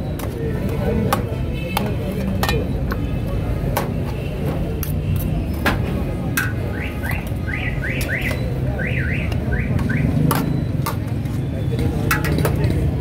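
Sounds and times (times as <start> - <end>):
low street din: 0.0 - 13.0.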